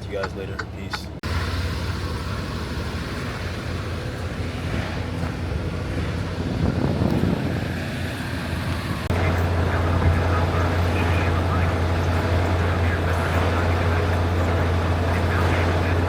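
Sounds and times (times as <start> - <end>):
road and wind noise: 0.0 - 16.0
truck engine drone: 0.0 - 16.0.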